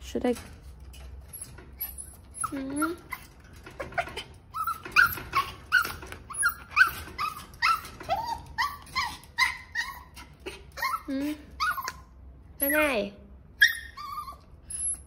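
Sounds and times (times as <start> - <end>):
puppy whining and yipping: 1.2 - 15.0.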